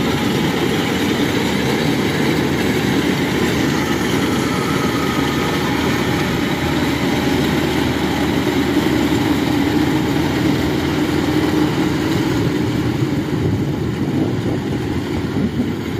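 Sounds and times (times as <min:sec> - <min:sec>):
combine harvester engine droning: 0:00.0 - 0:15.9.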